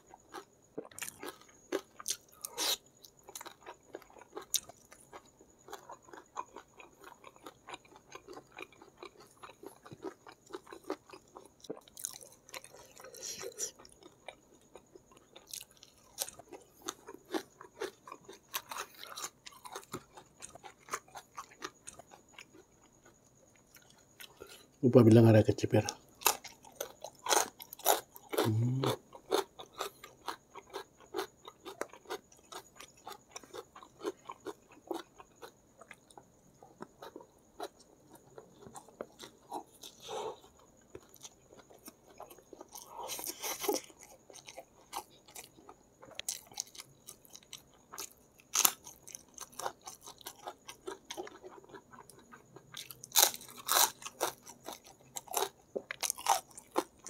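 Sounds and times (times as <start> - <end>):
person chewing crunchy food: 0.0 - 24.8, 25.7 - 57.0.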